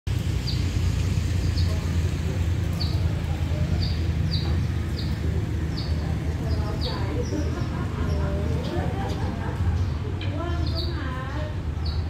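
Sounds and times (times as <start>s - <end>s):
steady low rumble: 0.1s - 12.0s.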